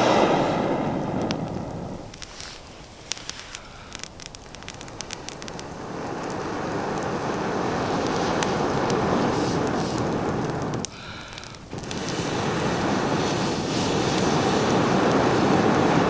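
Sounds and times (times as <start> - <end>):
air rushing through blowpipe: 0.0 - 16.0
campfire crackling and snapping: 0.0 - 16.0.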